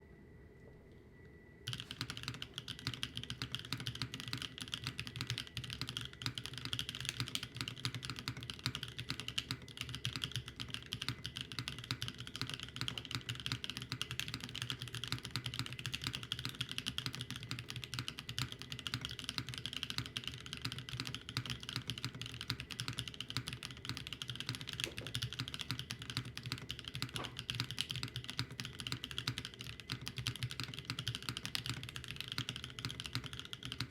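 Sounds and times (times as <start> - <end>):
faint high hum: 0.0 - 33.9
mechanical keyboard typing: 1.7 - 33.9.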